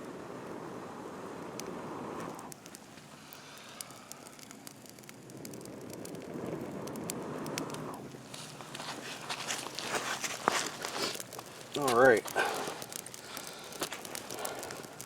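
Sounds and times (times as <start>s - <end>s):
campfire crackling and popping: 0.0s - 15.0s
rushes of fire noise: 0.0s - 15.0s.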